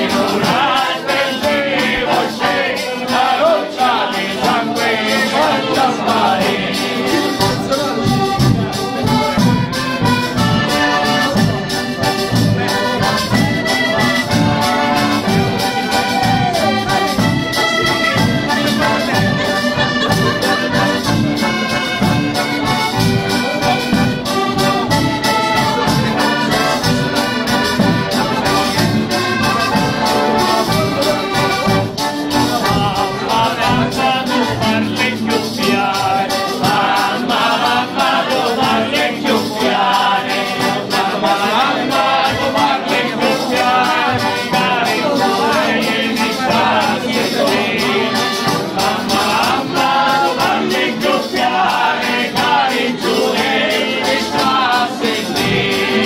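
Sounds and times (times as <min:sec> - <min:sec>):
button accordion melody: 0:00.0 - 0:56.0
frame drum beat: 0:00.0 - 0:56.0
people singing: 0:00.0 - 0:56.0.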